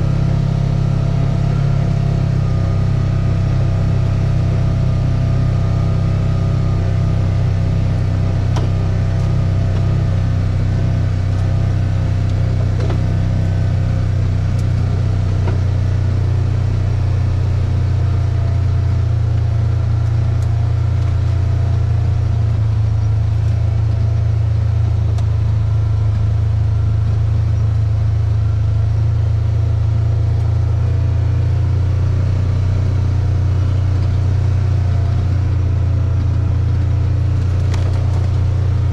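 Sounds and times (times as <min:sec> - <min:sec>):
vehicle drone inside cabin: 0:00.0 - 0:38.9.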